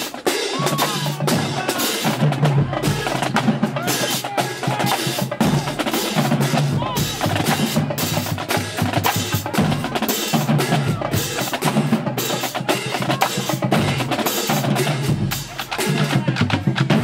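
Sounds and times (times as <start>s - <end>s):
bass drum: 0.0s - 17.0s
snare drums: 0.0s - 17.0s.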